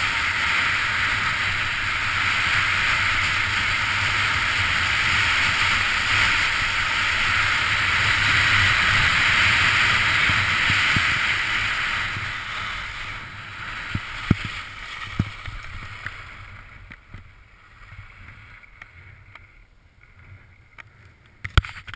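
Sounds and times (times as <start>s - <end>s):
skis scraping over snow: 0.0s - 21.9s.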